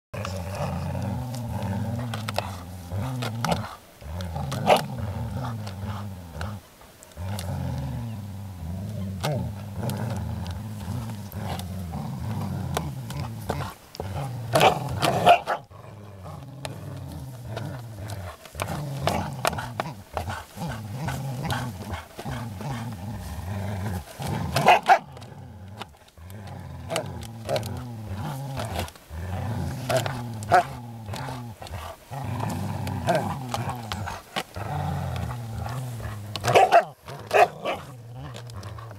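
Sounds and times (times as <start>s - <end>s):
dogs growling low: 0.1s - 38.9s.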